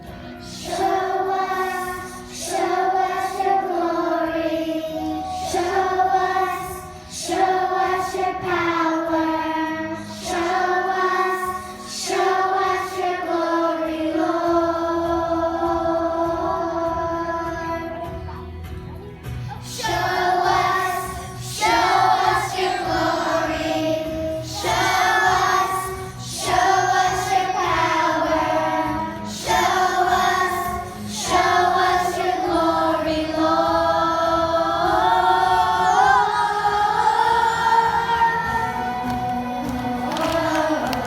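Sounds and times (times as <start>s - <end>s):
musical accompaniment: 0.0s - 41.0s.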